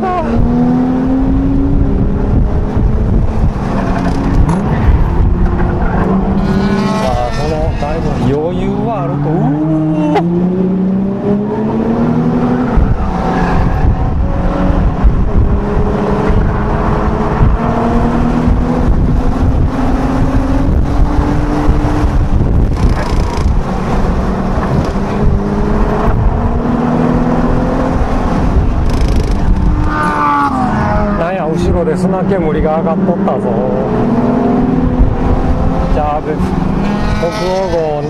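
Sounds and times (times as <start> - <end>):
car engine accelerating: 0.0 - 38.0
road and tyre noise: 0.0 - 38.0.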